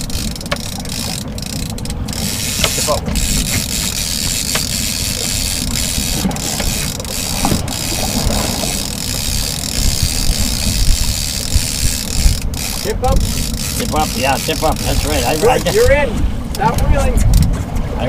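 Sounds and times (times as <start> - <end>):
fishing reel cranking: 0.0 - 15.9
water rushing: 0.0 - 18.0
wind: 0.0 - 18.0.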